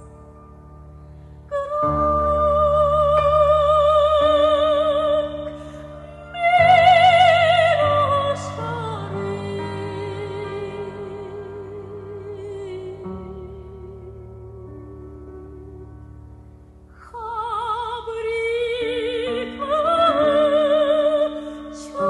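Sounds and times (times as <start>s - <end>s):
low sustained accompaniment: 0.0s - 22.0s
woman singing with vibrato: 1.5s - 14.3s, 17.0s - 22.0s.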